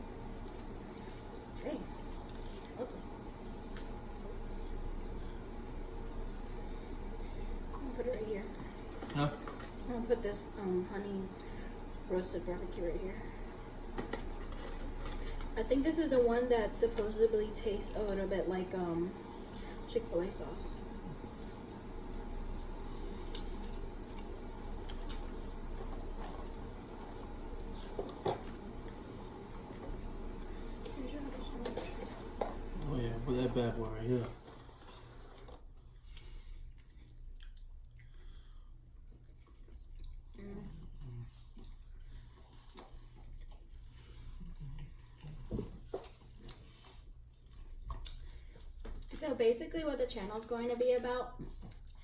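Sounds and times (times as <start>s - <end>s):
chewing: 0.0s - 9.9s, 11.0s - 15.6s, 21.0s - 49.2s, 50.7s - 52.0s.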